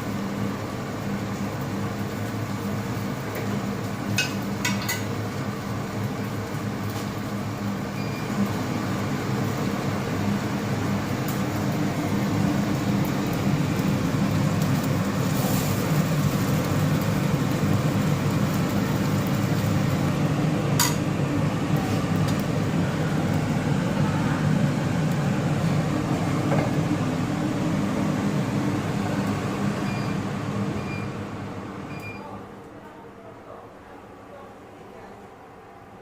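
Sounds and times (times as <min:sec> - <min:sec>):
food sizzling in oil: 0:00.0 - 0:30.8.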